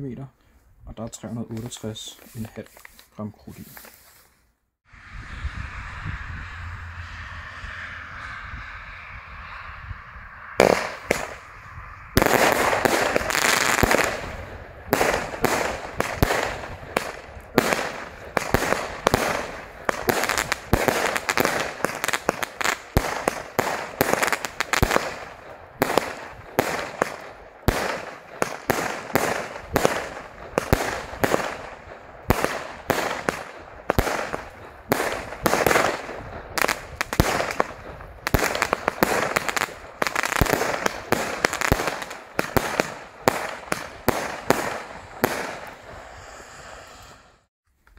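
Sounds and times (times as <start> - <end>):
firework launches and bursts: 4.9 - 47.5.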